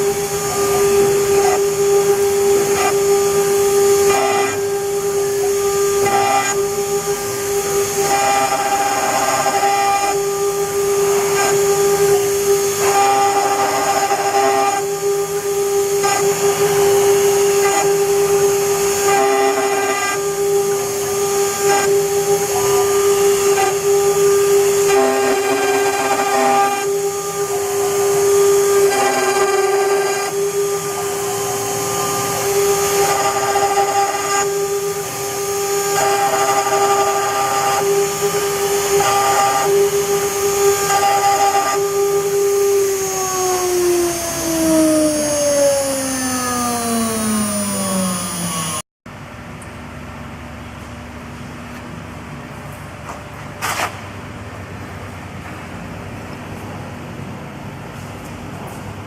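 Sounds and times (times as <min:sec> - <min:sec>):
bit cutting copper: 0:00.0 - 0:48.8
cnc router spindle whining: 0:00.0 - 0:48.9.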